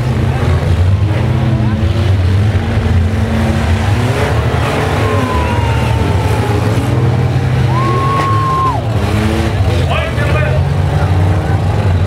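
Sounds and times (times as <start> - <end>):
racing engines droning: 0.0 - 12.0.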